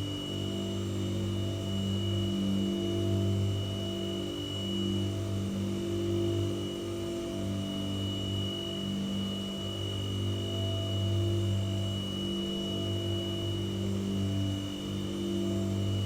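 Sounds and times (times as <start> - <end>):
white noise machine: 0.0 - 16.0.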